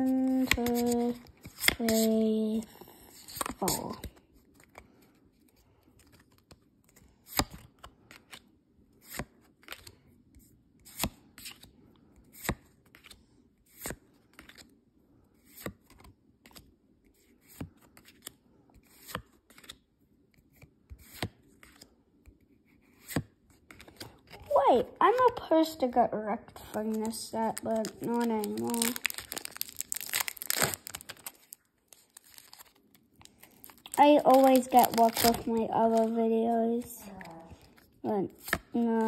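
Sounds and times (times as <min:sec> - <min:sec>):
card rustles: 0:00.0 - 0:10.1, 0:15.4 - 0:39.0.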